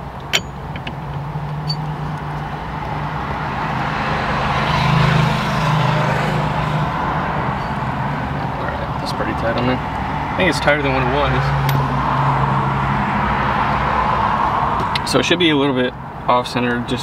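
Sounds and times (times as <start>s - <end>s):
car engine hum and road noise: 0.0s - 17.0s.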